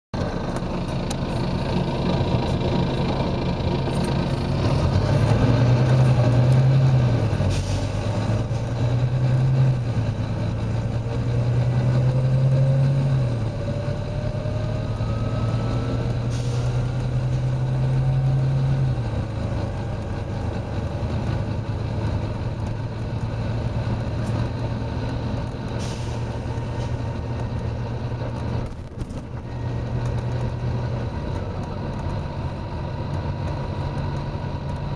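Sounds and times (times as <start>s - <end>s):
bus diesel engine pulling hard: 0.2s - 34.9s.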